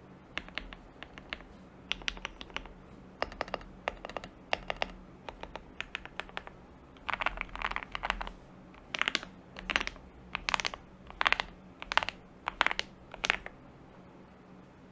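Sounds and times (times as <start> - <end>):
typing on mechanical keyboard: 0.4 - 13.6.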